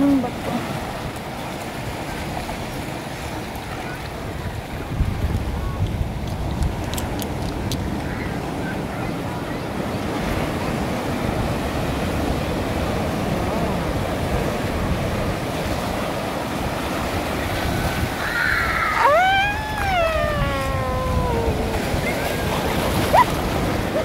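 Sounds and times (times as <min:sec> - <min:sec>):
ocean waves on rocky shore: 0:00.0 - 0:24.0
wind on microphone: 0:03.9 - 0:24.0.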